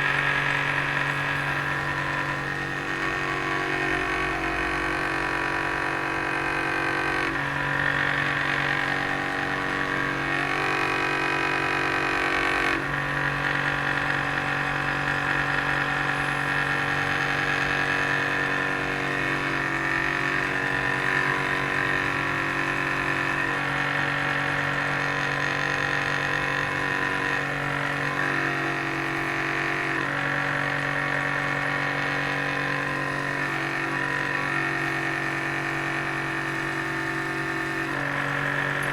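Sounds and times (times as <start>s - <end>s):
drill press motor humming: 0.0s - 38.9s
wood turning on drill press: 0.0s - 38.9s.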